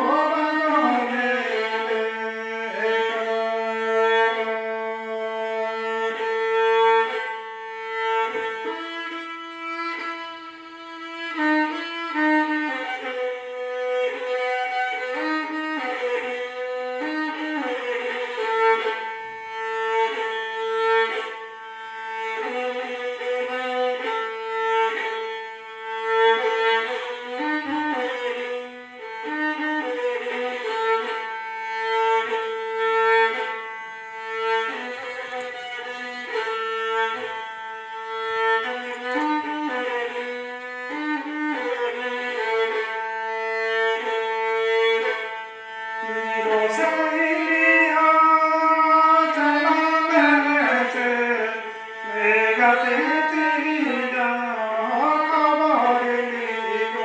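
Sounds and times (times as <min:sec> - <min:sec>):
solo violin melody: 0:00.0 - 0:57.0.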